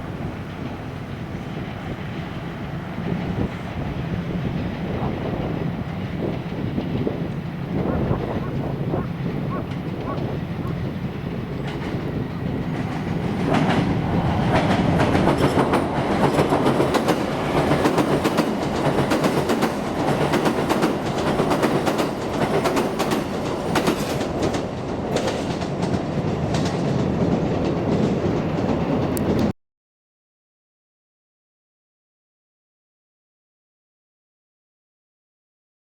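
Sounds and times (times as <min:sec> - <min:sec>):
train wheels clattering over joints: 0:00.1 - 0:29.5.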